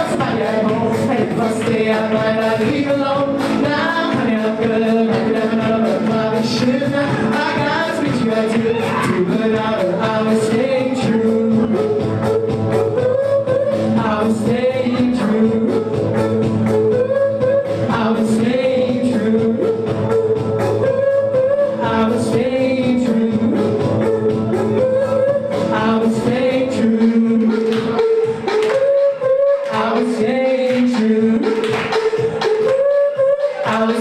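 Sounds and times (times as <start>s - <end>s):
person singing: 0.0s - 34.0s.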